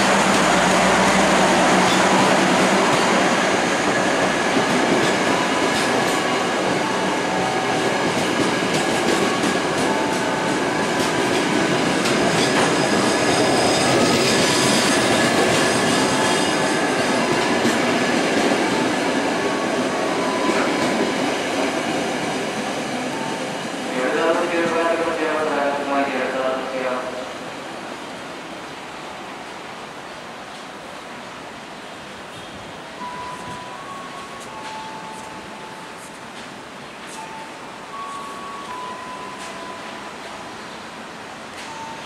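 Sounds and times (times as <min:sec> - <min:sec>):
train coaches rolling past: 0:00.0 - 0:42.0.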